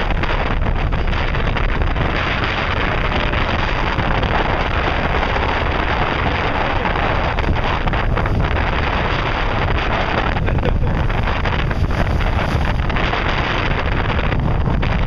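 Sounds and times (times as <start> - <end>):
low rumble: 0.0 - 15.0
wind buffeting microphone: 0.0 - 15.0.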